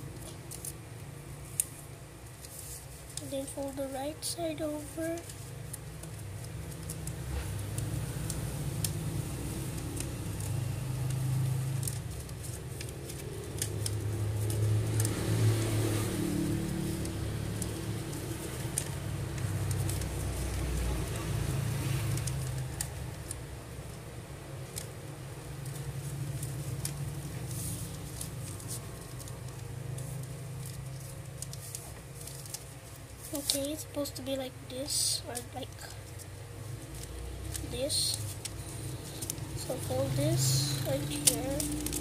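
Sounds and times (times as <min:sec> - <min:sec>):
paper being folded: 0:00.0 - 0:42.0
paper crackles and clicks: 0:00.0 - 0:42.0
steady low hum: 0:00.0 - 0:42.0.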